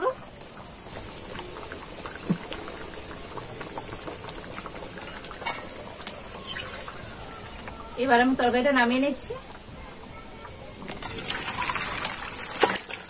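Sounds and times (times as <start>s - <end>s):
curry bubbling at a boil: 0.0s - 9.7s, 10.5s - 13.0s.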